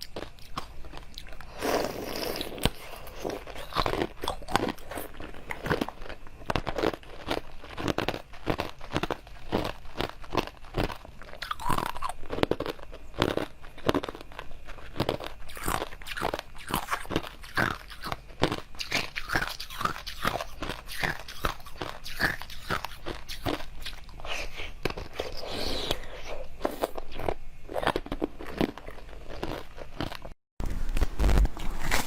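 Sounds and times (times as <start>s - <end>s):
frozen food crunching: 0.0s - 32.0s.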